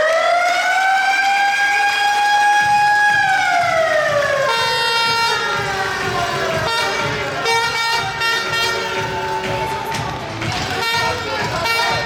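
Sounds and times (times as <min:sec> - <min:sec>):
siren wailing: 0:00.0 - 0:09.9
steady horn tone: 0:01.6 - 0:12.0.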